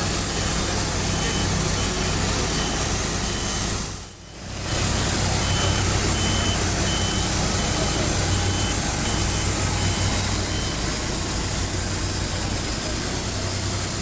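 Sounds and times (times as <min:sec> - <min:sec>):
sawmill machinery running: 0:00.0 - 0:14.0
reversing alarm beeping: 0:00.3 - 0:11.7.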